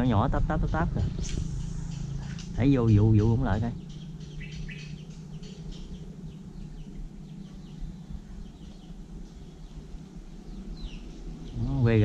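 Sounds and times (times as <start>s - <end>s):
low outdoor hum: 0.0s - 12.0s
faint bird chirps: 1.2s - 12.0s.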